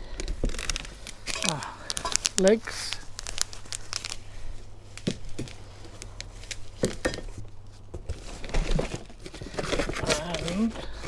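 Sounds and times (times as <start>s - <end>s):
packaging crinkling: 0.0s - 7.1s, 8.0s - 11.0s.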